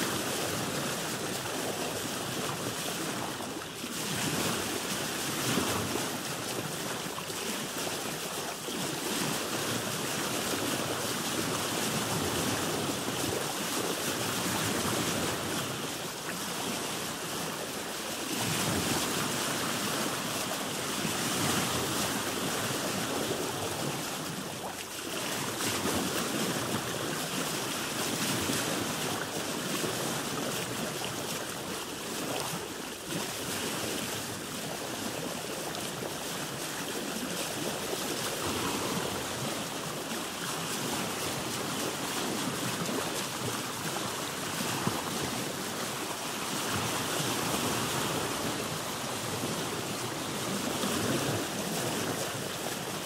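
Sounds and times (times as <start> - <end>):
sea water splashing against hull: 0.0 - 53.0
wind: 0.0 - 53.0.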